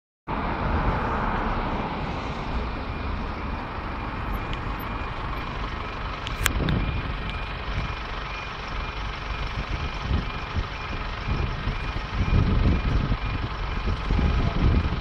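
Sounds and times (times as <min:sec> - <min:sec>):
wind rumbling on microphone: 0:00.3 - 0:08.2, 0:09.3 - 0:15.0
road traffic roar: 0:00.3 - 0:15.0.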